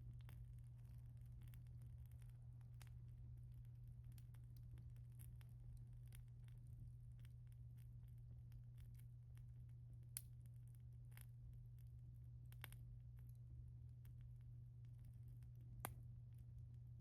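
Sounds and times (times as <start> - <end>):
fire crackling: 0.0 - 17.0
low steady hum: 0.0 - 17.0.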